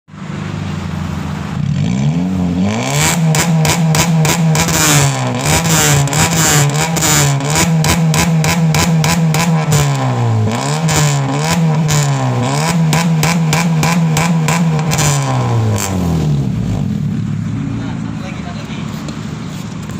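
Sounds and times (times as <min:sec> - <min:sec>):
car engine revving: 0:00.1 - 0:19.9.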